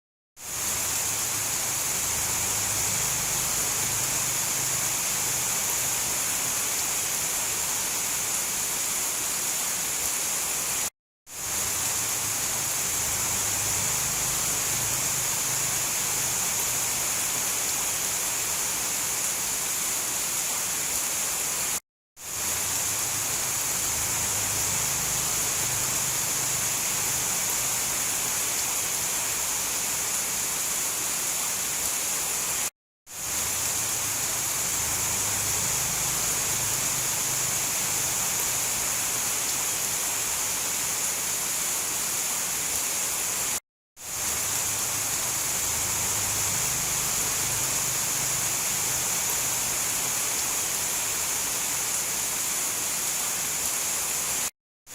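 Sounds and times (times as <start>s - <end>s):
heavy rain: 0.4s - 54.9s.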